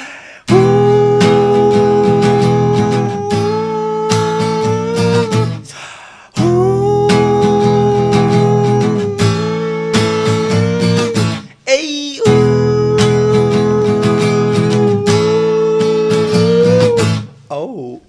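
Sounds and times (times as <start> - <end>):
person singing wordless held notes: 0.0 - 18.0
strummed acoustic guitar: 0.4 - 17.5.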